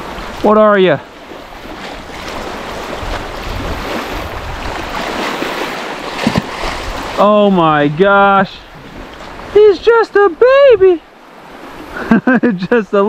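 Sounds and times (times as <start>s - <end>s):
waves washing onto sandy beach: 0.0s - 13.0s
wind: 0.0s - 13.0s.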